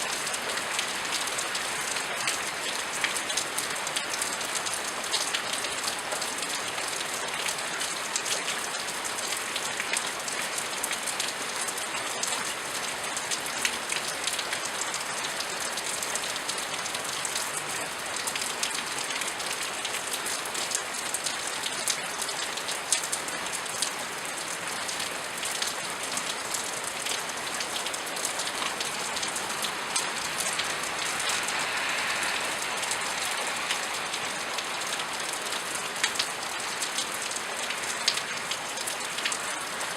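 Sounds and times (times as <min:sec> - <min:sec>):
rain pattering on hard surface: 0:00.0 - 0:39.9.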